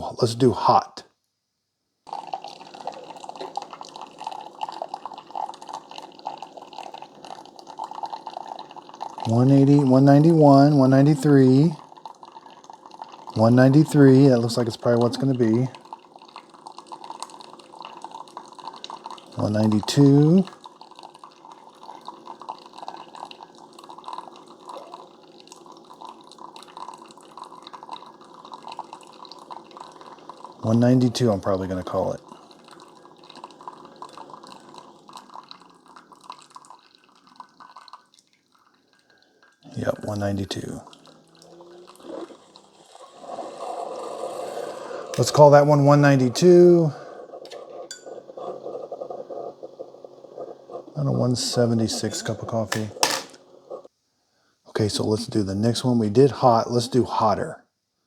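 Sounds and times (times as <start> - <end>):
faint steady hum: 0.0 - 58.0
coffee pouring into cup: 2.1 - 53.9, 54.7 - 57.5.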